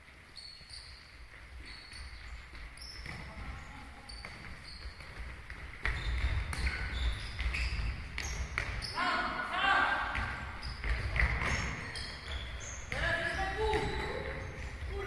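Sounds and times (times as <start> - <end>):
shoes squeaking on hall floor: 0.0 - 15.0.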